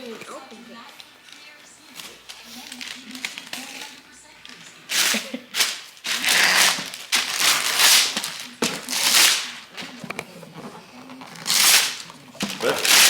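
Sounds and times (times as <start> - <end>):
wrapping paper tearing and rustling: 0.0 - 13.0.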